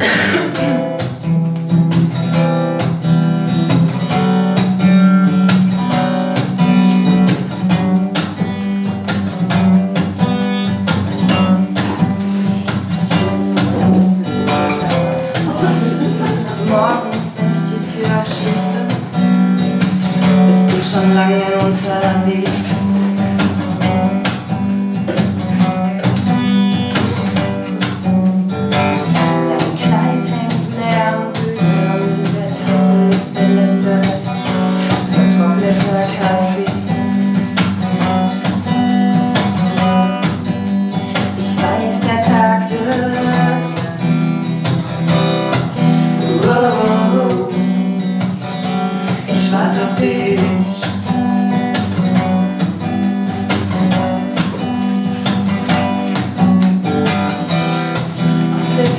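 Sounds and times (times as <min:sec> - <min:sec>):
acoustic guitar strumming chords: 0:00.0 - 0:58.9.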